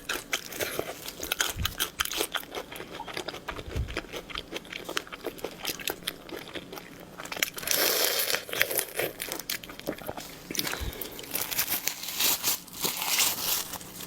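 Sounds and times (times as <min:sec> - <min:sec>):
crunchy bites and wet chewing: 0:00.0 - 0:14.0.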